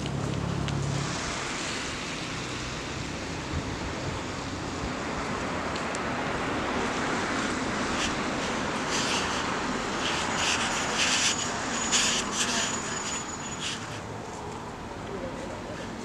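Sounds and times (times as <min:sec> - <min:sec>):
rushing outdoor noise: 0:00.0 - 0:16.0.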